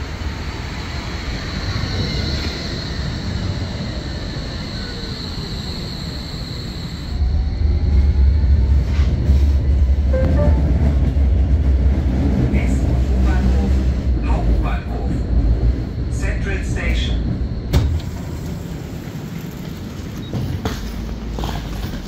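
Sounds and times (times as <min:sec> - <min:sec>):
deep rumble inside tram: 0:00.0 - 0:22.0
tram pulling in and stopping: 0:00.0 - 0:22.0.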